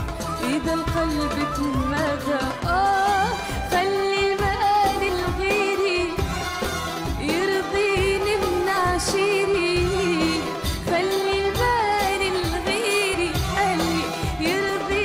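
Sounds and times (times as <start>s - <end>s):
band with percussion beat: 0.0s - 15.0s
woman singing: 0.0s - 15.0s.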